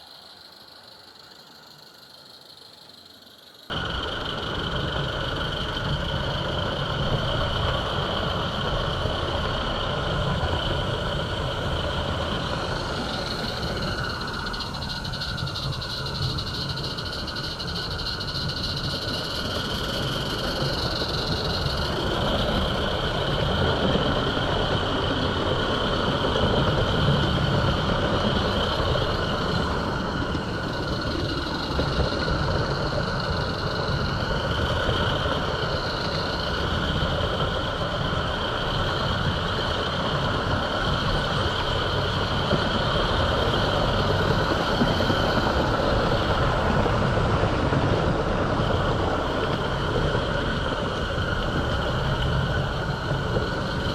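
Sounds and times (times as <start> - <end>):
model train rolling on track: 0.0 - 53.9.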